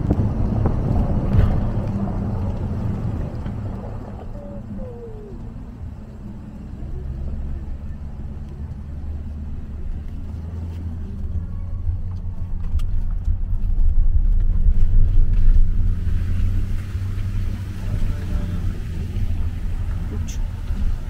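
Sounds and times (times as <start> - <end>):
car engine labouring uphill: 0.0 - 21.0.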